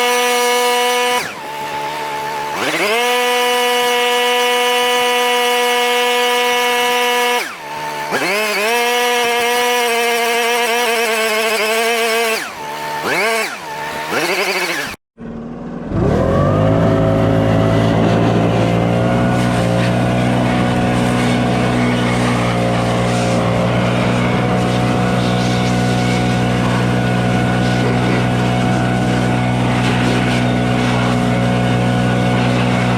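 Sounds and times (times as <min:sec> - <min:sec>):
lower-pitched engine: 0:00.0 - 0:32.9
small high-pitched engine: 0:00.0 - 0:32.9.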